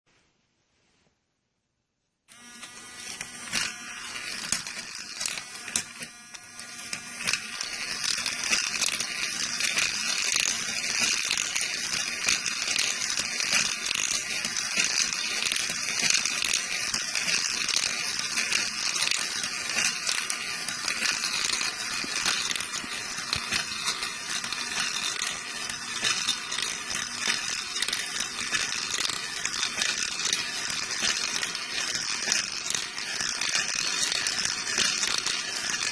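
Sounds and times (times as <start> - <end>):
small motor running: 2.3 - 35.9
marbles clattering and clicking: 2.8 - 35.9.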